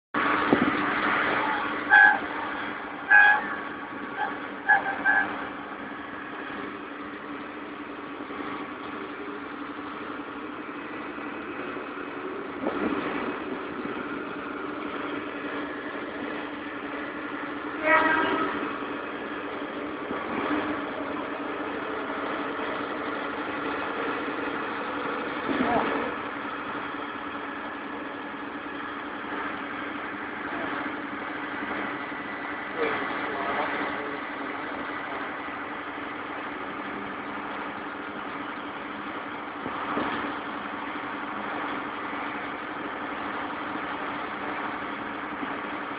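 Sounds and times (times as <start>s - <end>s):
concrete pump engine hum: 0.2s - 45.9s.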